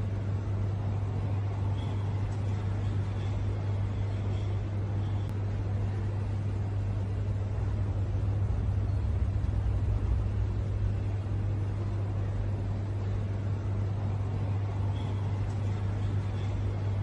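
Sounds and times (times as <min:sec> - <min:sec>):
rumble of hall background noise: 0:00.0 - 0:17.0
steady low hum: 0:00.0 - 0:17.0.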